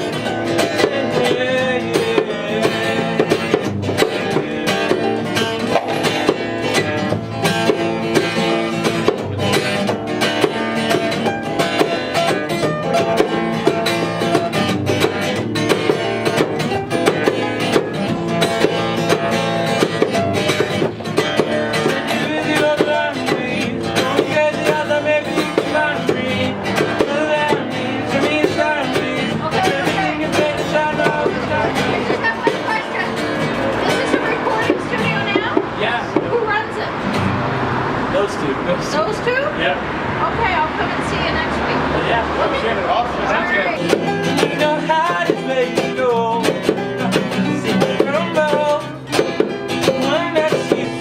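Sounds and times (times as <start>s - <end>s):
acoustic guitars playing: 0.0s - 51.0s
bongo hits: 0.6s - 36.4s, 43.8s - 51.0s.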